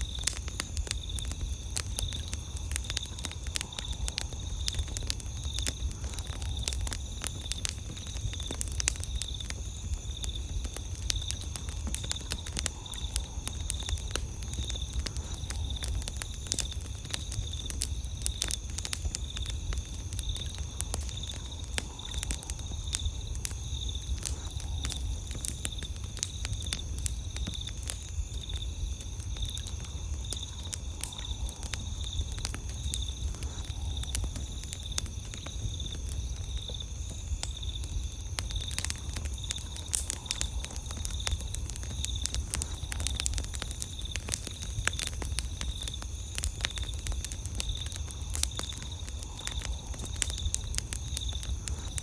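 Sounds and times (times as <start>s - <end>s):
campfire crackling and popping: 0.0s - 52.0s
night insects trilling: 0.0s - 52.0s.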